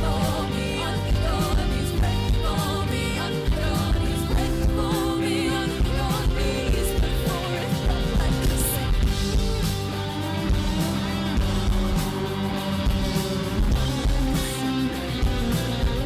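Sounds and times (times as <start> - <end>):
electric guitar: 0.0 - 16.0
live rock band: 0.0 - 16.0
person singing: 0.0 - 16.0.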